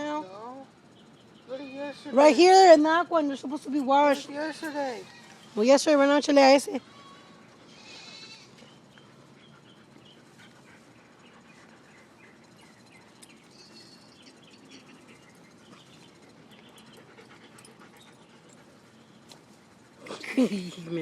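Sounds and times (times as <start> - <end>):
faint dogs playing: 0.0 - 21.0.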